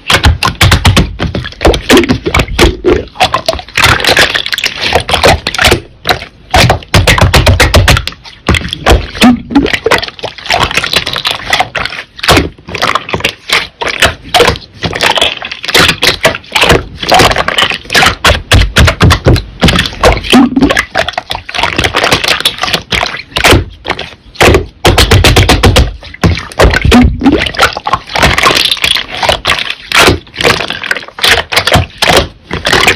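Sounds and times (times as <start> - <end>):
slime crackling and popping: 0.0 - 32.9.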